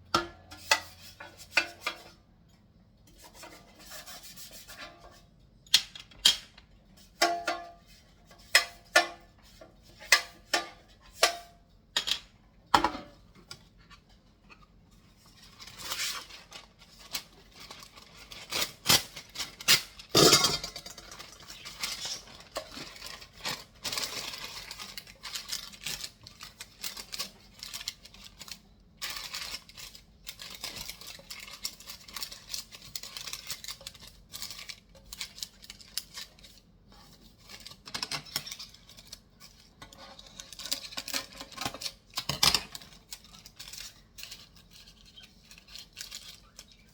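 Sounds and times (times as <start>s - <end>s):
utensils scraping and rustling: 0.3s - 2.2s, 3.1s - 5.4s, 13.0s - 46.9s.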